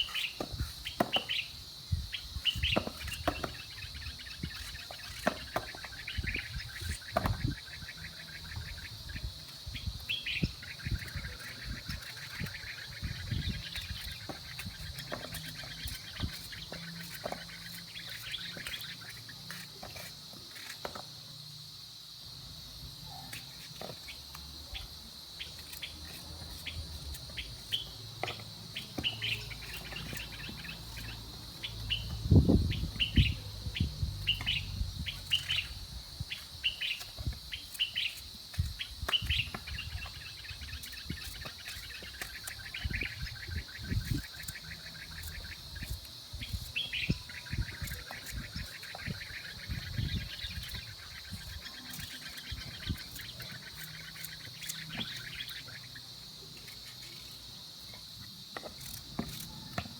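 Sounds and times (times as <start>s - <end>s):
high insect drone: 0.0s - 59.9s
small birds chirping: 0.0s - 59.9s.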